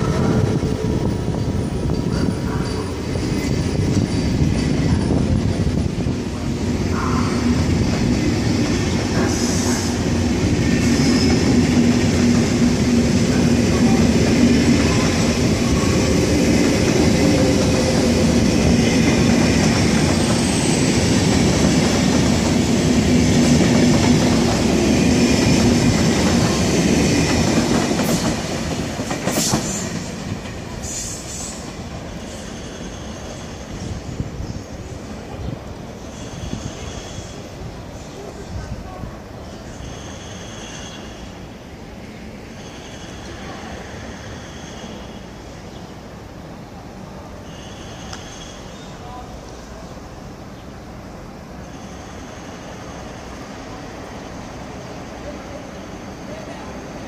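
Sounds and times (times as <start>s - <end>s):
train running through station: 0.0s - 57.0s.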